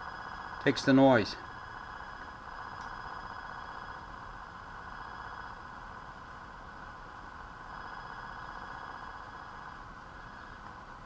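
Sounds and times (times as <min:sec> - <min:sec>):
faint high whine tones: 0:00.0 - 0:11.0.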